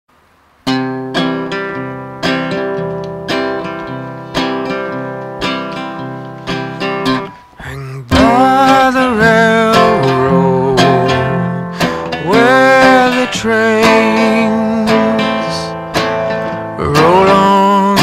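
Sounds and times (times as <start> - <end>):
acoustic guitar strumming chords: 0.6 - 18.0.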